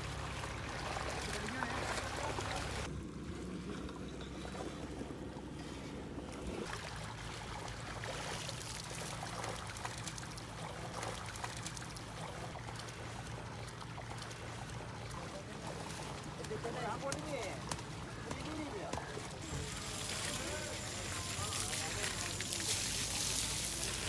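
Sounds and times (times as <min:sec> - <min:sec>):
river water trickling and splashing: 0:00.0 - 0:24.0
steady outdoor noise: 0:00.0 - 0:24.0.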